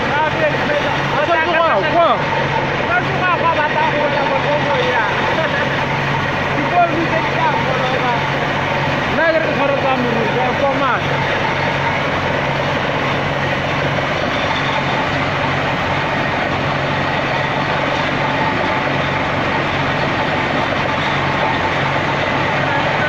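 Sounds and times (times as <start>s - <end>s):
drilling rig running: 0.0s - 23.0s.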